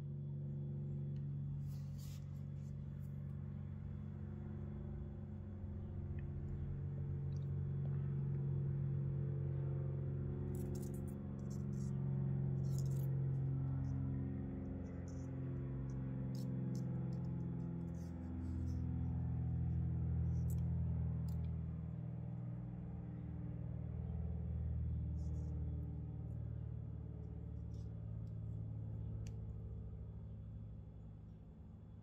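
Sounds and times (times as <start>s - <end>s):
low droning tone: 0.0s - 32.0s.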